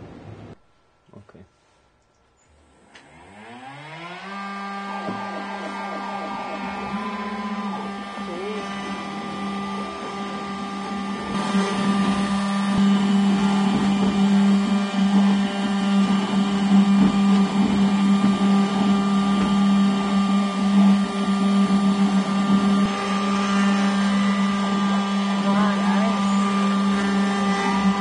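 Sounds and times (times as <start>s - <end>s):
cnc spindle cutting wood: 2.6s - 28.0s.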